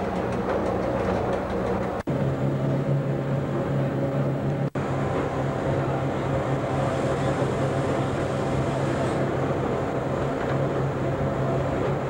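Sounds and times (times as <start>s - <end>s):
railcar running rumble: 0.0s - 12.0s.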